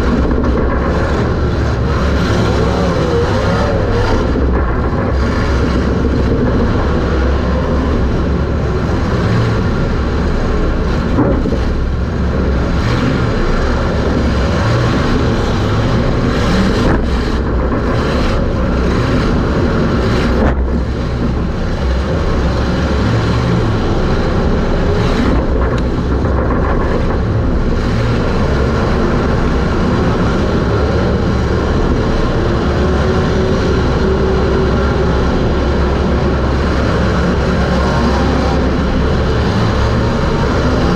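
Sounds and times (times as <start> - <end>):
race car engine running: 0.0 - 40.9.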